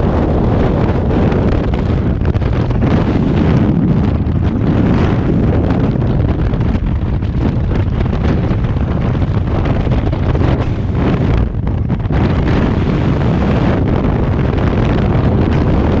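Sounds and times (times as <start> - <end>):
airflow buffeting microphone: 0.0 - 16.0.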